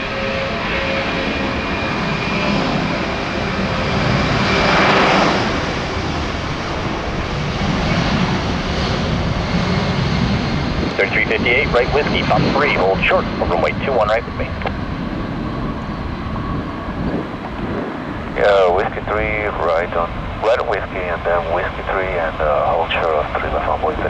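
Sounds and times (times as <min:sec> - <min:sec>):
jet engine with whining tones: 0:00.0 - 0:24.0.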